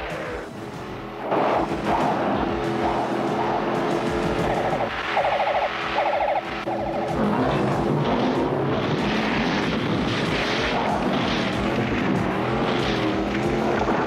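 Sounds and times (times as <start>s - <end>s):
rushing noise: 0.0s - 14.0s
cartoon car engine wavering: 1.2s - 14.0s.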